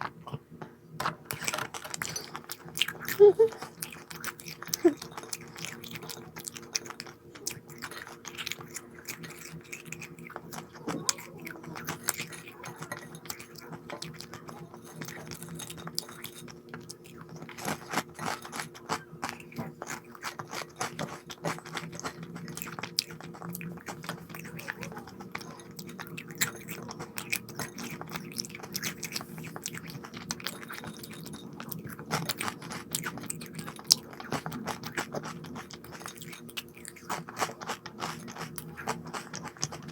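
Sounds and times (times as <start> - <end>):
faint low hum: 0.0 - 39.9
person crunching crisp snacks: 1.3 - 39.9.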